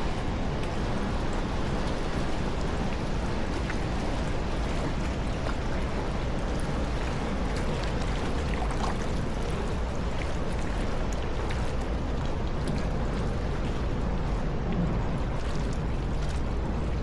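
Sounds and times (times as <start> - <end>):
water around a kayak: 0.0 - 17.0
water drips and small splashes: 0.0 - 17.0
wind: 0.0 - 17.0.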